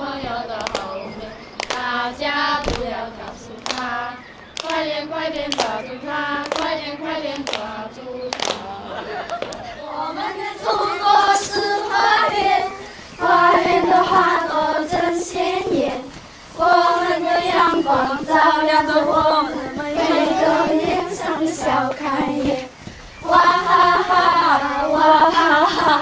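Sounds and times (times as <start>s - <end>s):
girls choir singing folk song: 0.0s - 26.0s.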